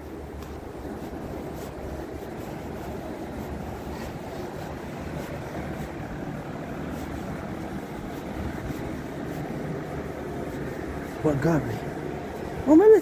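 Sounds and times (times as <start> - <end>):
cars passing close: 0.0 - 13.0.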